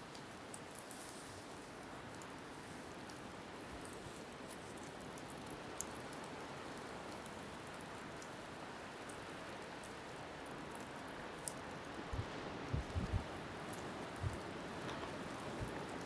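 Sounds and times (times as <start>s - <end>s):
wind: 0.0s - 16.0s
wood fire crackling: 0.1s - 16.0s.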